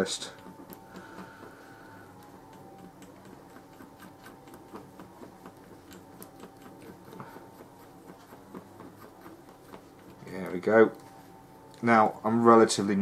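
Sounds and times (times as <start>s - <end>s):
stick tapping paint pot: 0.0s - 11.1s.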